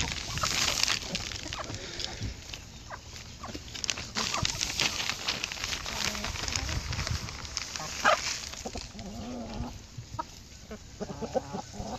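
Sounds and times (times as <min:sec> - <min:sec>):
chickens clucking: 0:00.0 - 0:11.9
chickens pecking and scratching: 0:00.0 - 0:11.9.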